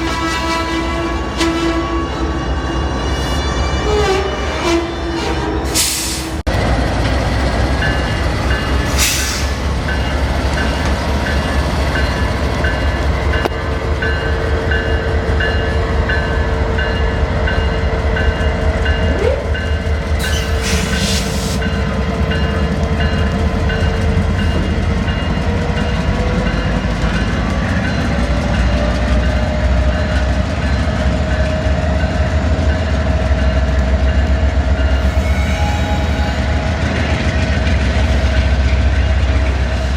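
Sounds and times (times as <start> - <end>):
train rumbling by: 0.0 - 39.9.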